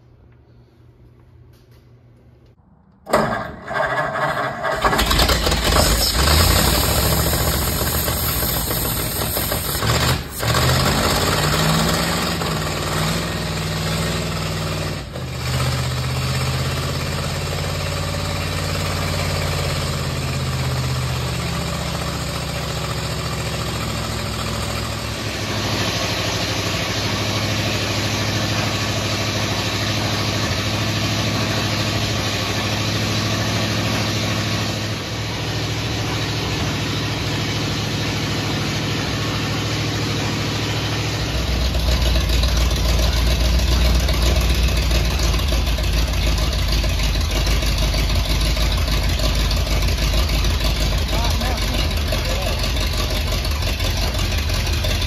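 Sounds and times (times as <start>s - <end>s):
unmuffled engine starting and running: 1.2s - 55.0s.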